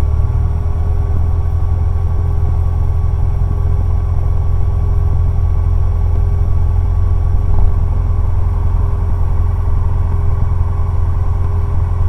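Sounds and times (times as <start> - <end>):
aircraft engine droning: 0.8 - 12.0.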